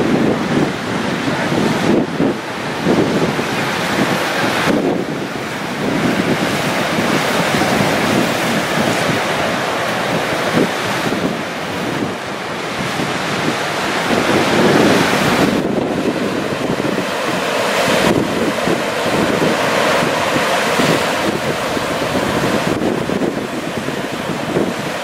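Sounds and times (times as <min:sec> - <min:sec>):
sea waves breaking on shore: 0:00.0 - 0:25.0
wind buffeting microphone: 0:00.0 - 0:25.0.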